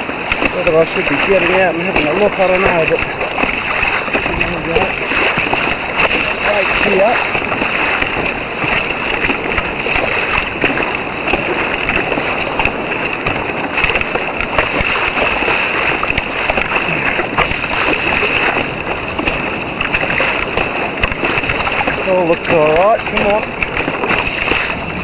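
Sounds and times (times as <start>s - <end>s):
rush of water: 0.0s - 25.0s
sea water splashing against kayak: 0.0s - 25.0s.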